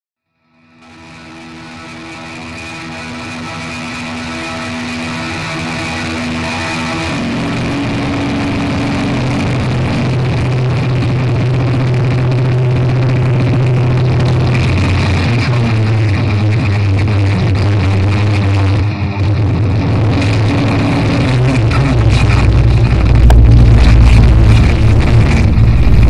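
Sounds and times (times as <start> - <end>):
droning tones: 0.5 - 26.0
harsh distorted noise music: 0.8 - 26.0
deep low hum: 2.4 - 26.0.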